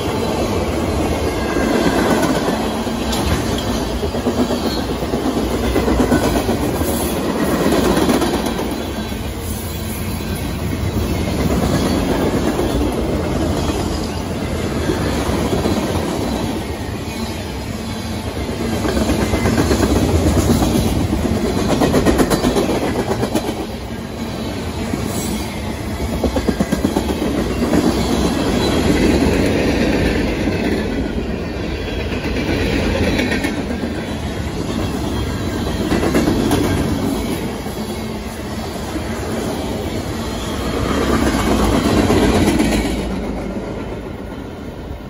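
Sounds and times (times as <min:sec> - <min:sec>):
train wheels rumbling and clacking: 0:00.0 - 0:45.0.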